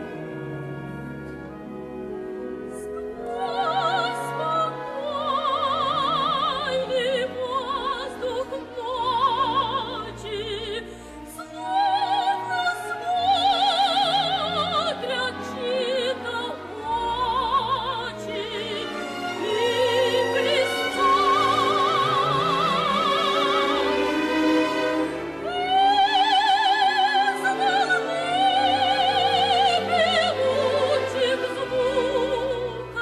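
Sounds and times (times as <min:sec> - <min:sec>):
orchestra with sustained strings: 0:00.0 - 0:33.0
operatic soprano singing: 0:02.7 - 0:33.0.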